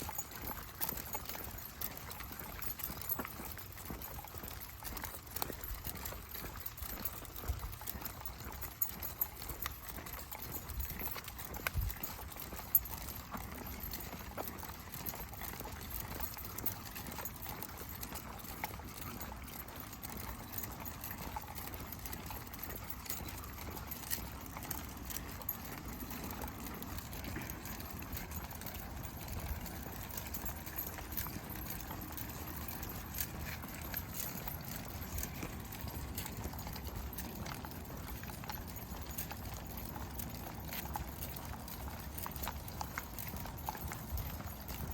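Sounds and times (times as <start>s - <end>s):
footsteps on a trail: 0.0s - 44.9s.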